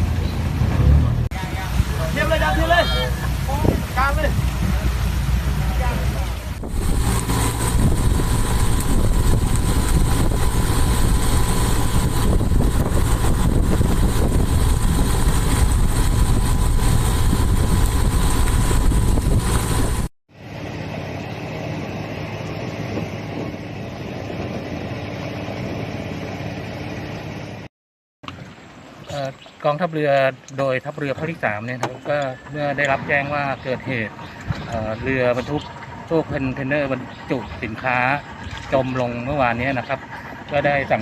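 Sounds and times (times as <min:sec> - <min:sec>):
boat engine running: 0:00.0 - 0:27.7, 0:31.0 - 0:41.0
quieter engine hum: 0:00.0 - 0:27.7, 0:30.4 - 0:41.0
sea noise: 0:00.0 - 0:41.0
wind: 0:00.0 - 0:41.0.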